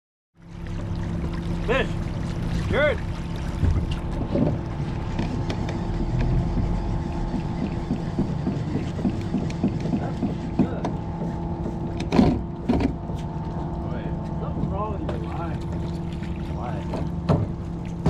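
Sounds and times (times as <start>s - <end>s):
boat motor humming: 0.4s - 18.0s.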